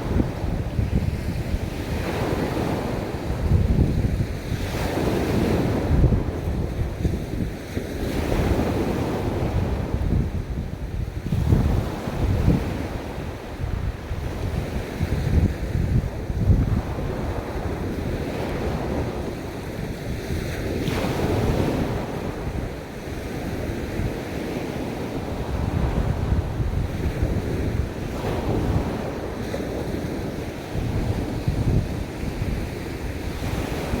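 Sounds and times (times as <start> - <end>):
ocean waves breaking: 0.0 - 10.2, 11.2 - 34.0
wind rumbling on microphone: 0.0 - 34.0.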